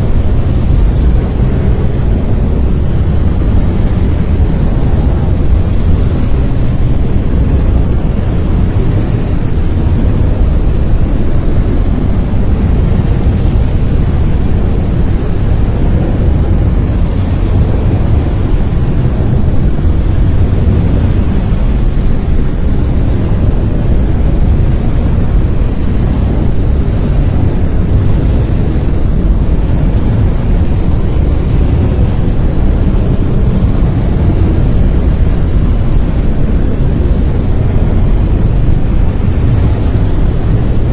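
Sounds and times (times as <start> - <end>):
brown noise deep rushing hiss: 0.0 - 40.9.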